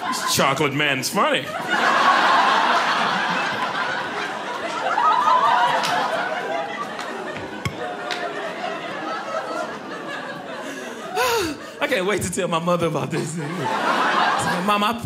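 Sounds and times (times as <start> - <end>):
audience laughing: 0.0 - 12.3, 12.9 - 15.0.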